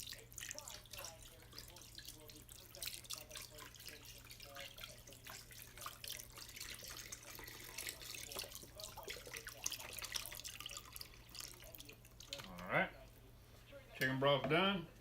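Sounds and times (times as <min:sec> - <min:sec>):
broth pouring into liquid: 0:00.0 - 0:12.6.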